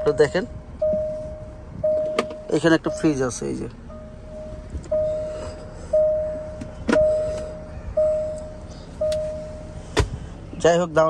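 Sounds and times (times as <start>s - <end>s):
car warning chime dinging: 0.0s - 9.9s.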